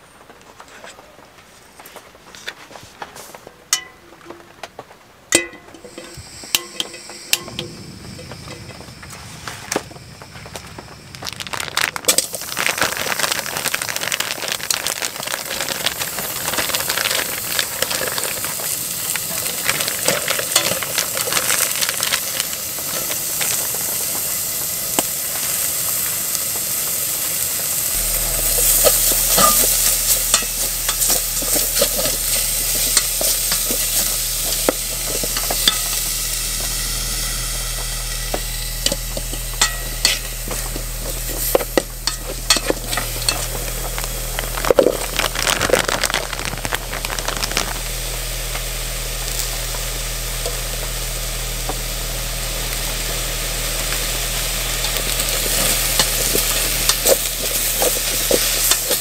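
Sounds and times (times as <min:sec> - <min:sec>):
meat sizzling in a pot: 0:05.3 - 0:59.0.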